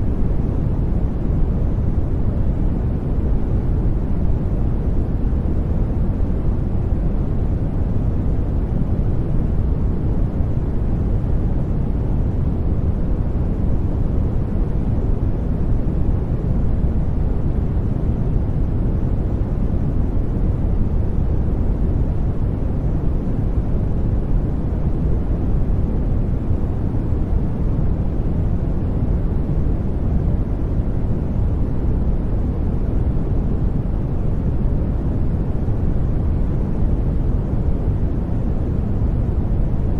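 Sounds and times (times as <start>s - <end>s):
deep brown noise rumble: 0.0s - 39.9s.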